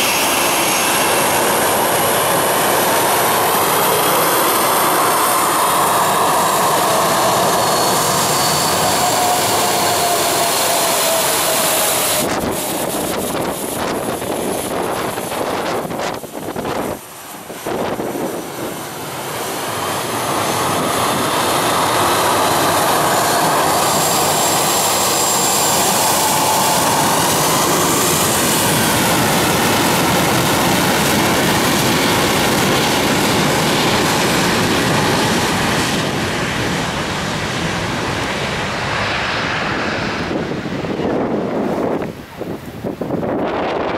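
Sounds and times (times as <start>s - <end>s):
jet engines spooling up: 0.0s - 43.9s.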